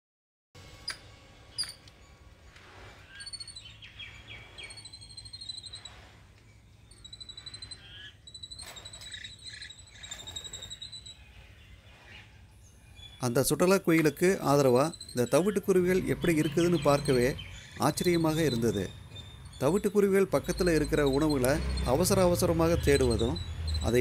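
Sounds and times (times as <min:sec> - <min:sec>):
harsh bird calls: 0:02.6 - 0:24.0
birds rapid high calls: 0:02.7 - 0:24.0.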